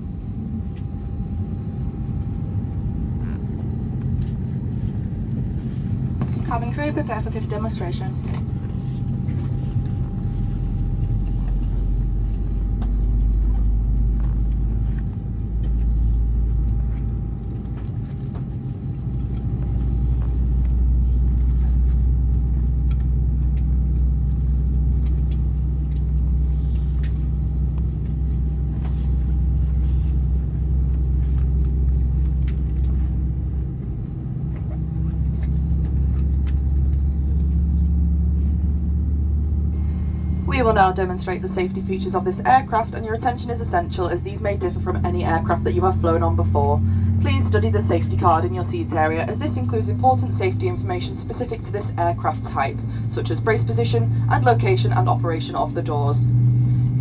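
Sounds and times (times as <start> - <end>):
aircraft cabin rumble: 0.0 - 57.0
thin steady whine: 0.0 - 57.0.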